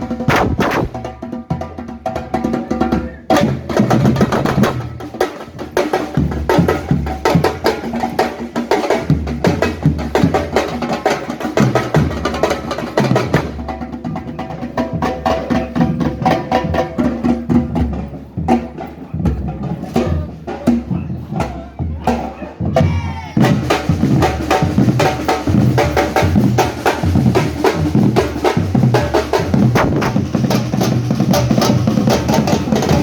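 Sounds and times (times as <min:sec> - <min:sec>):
drums and percussion music: 0:00.0 - 0:33.0.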